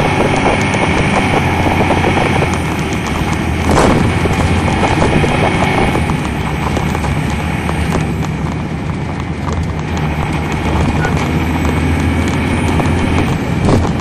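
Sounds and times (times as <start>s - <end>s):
diesel coach engine running: 0.0s - 14.0s
interior rattles and clicks: 0.0s - 14.0s.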